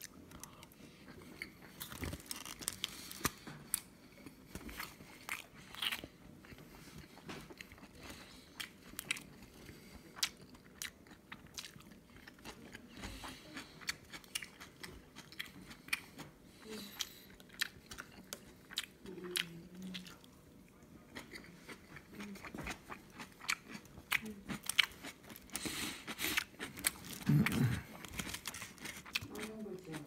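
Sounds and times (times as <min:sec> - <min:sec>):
close-up chewing: 0:00.0 - 0:30.0.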